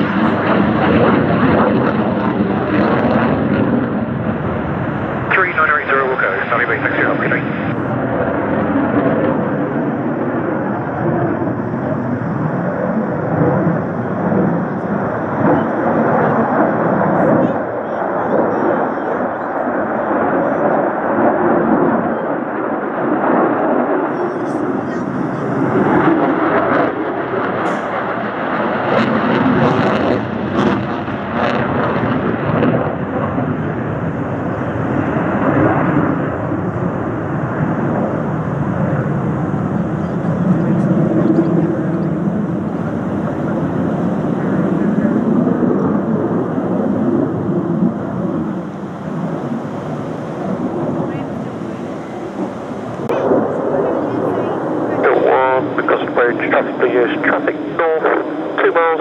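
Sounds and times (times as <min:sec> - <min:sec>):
rumbling aircraft engine: 0:00.0 - 0:59.0.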